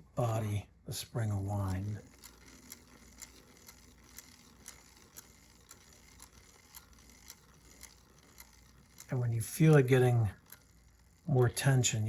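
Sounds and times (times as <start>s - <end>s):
camera crank ratchet clicks: 1.6s - 12.0s.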